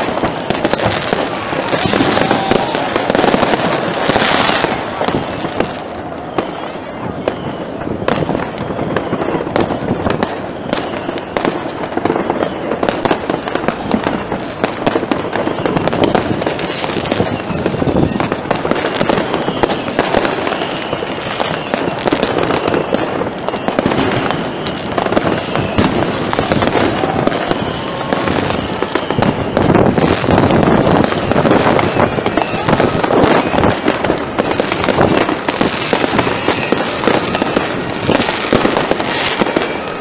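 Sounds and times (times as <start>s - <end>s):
fireworks bangs and crackles: 0.0s - 40.0s
people's voices: 0.0s - 40.0s.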